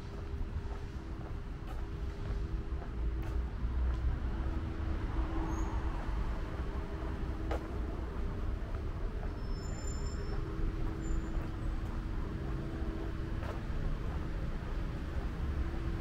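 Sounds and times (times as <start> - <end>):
cars passing on street: 0.0 - 16.0.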